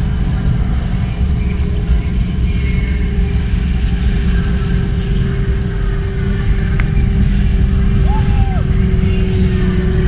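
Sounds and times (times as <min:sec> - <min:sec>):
trolley wheels humming on cable: 0:00.0 - 0:10.0.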